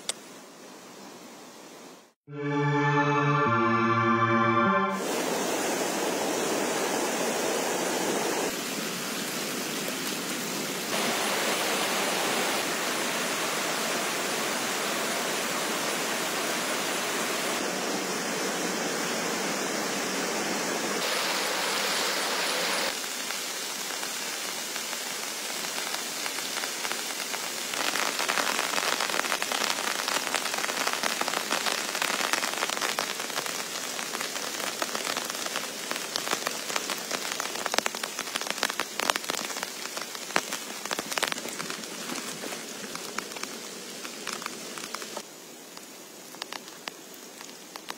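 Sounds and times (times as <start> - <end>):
heavy rain hissing: 4.9 - 47.9.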